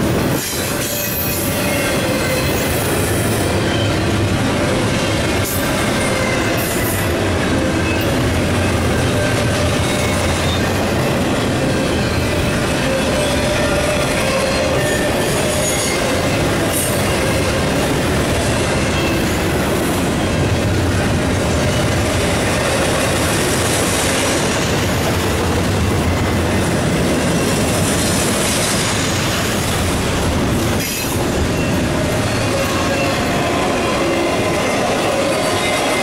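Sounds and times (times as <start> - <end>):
train wheels rolling on rails: 0.0 - 36.0.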